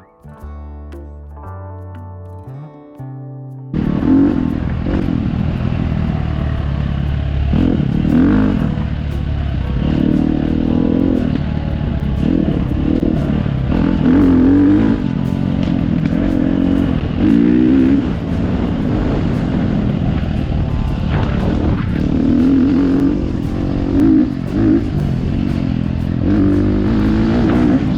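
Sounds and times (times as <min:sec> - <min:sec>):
dirt bike engine revving: 0:03.8 - 0:27.9.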